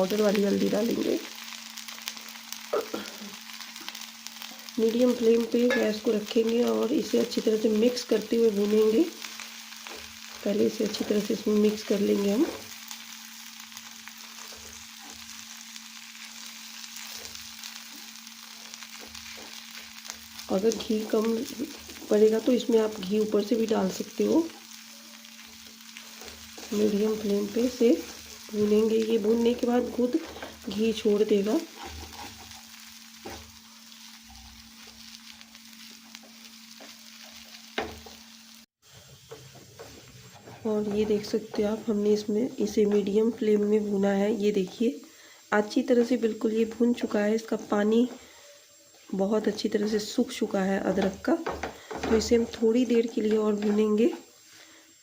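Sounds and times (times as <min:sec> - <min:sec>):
spices sizzling in a pan: 0:00.0 - 0:55.0.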